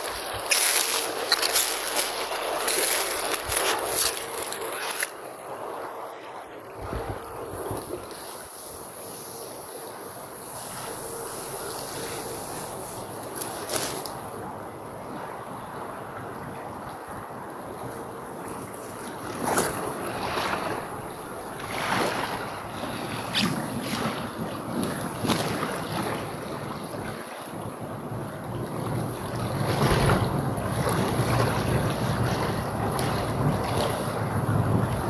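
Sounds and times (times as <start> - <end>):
wind buffeting microphone: 0.0 - 9.3, 10.2 - 35.0.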